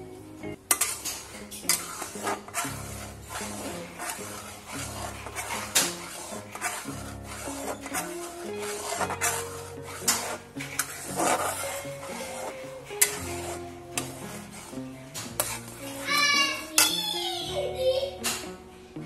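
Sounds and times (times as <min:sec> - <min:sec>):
spatula scraping metal pan: 0:00.6 - 0:17.6.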